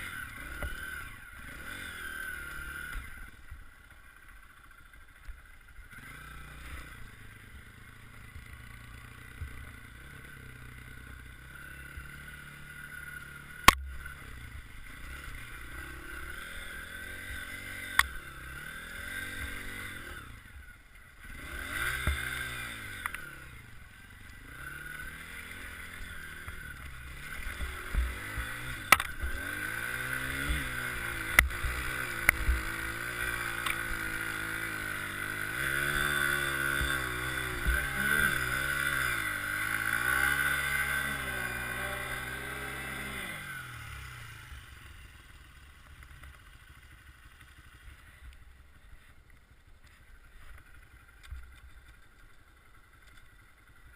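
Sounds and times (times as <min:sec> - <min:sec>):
dirt bike engine revving: 0:00.0 - 0:45.7.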